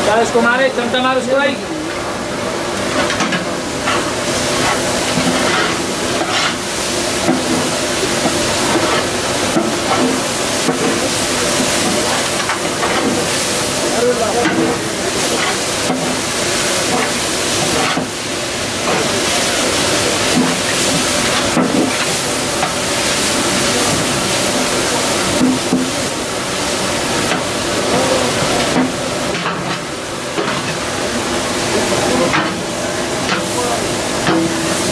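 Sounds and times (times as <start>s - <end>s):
deep-frying in hot oil sizzle: 0.0s - 34.9s.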